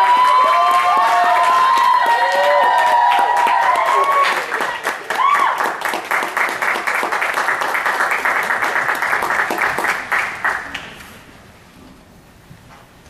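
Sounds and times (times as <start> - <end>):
audience applause: 0.0 - 11.0.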